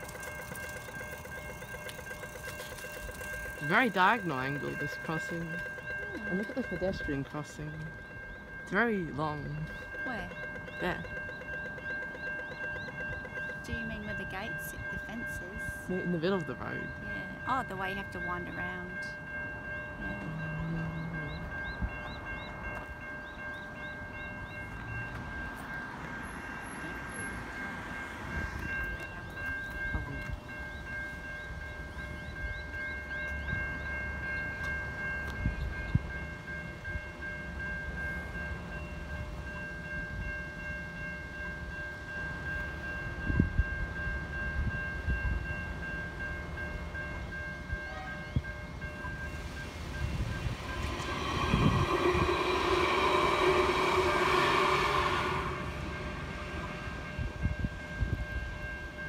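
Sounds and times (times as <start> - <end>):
level crossing warning bells: 0.0 - 59.0
tram passing: 0.0 - 59.0.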